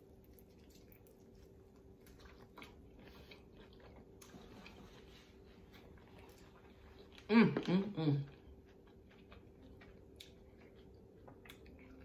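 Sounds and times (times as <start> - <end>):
faint hum: 0.0 - 12.0
person chewing crunchy food: 0.0 - 12.0.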